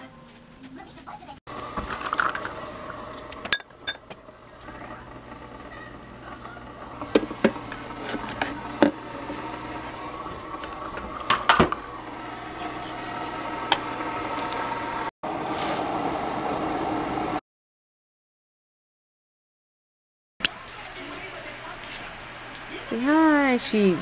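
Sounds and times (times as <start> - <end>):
steady appliance hum: 0.0 - 17.4, 20.4 - 24.0.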